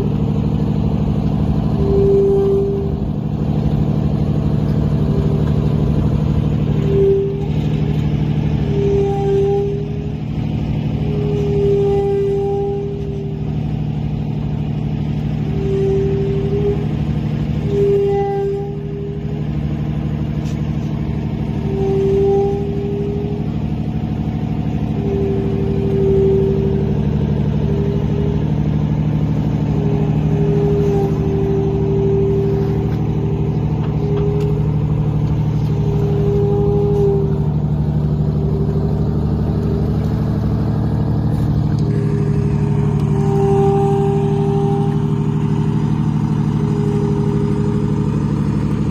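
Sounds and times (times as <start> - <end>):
bus diesel engine running: 0.0 - 48.9
high engine whine: 0.0 - 48.9.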